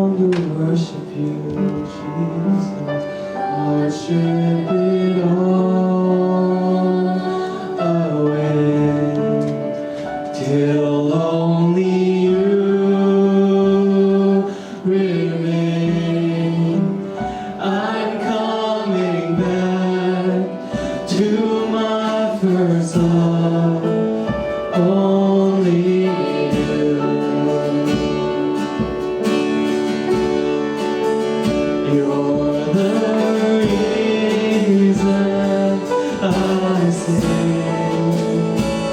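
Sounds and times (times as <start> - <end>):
instrumental accompaniment: 0.0 - 38.9
voices singing gospel song: 0.0 - 38.9.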